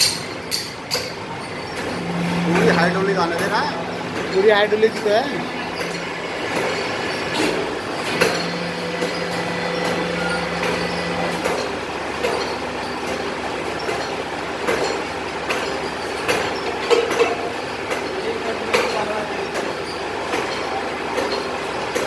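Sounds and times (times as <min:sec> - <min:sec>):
hydraulic press humming: 0:00.0 - 0:22.0.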